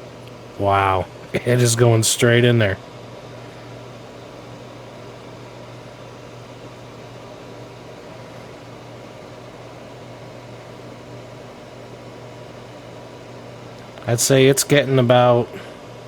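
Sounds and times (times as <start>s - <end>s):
fume extractor fan humming: 0.0s - 16.0s.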